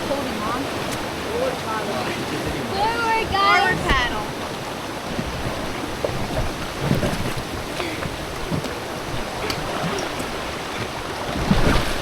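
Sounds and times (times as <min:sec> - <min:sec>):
river water rushing and splashing: 0:00.0 - 0:12.0.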